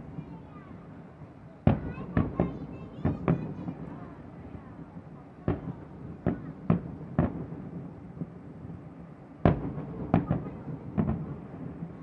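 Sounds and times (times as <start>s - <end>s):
fireworks bursting with bangs: 1.6s - 4.1s, 4.7s - 12.0s.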